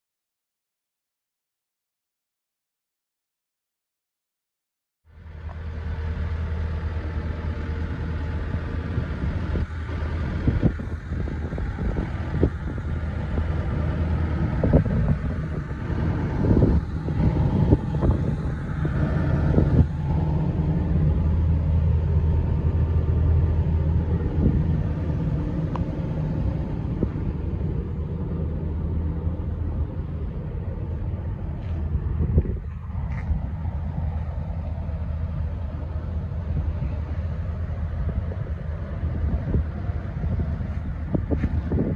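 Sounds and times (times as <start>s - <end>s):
diesel engine idling: 5.1s - 41.9s.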